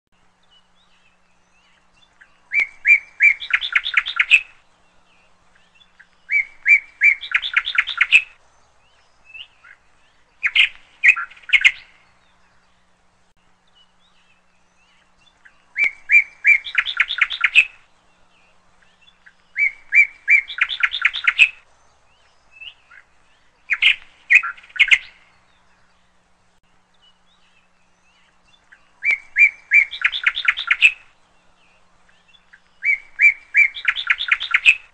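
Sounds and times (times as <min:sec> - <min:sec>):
songbird chirps and trill: 0:00.2 - 0:34.9.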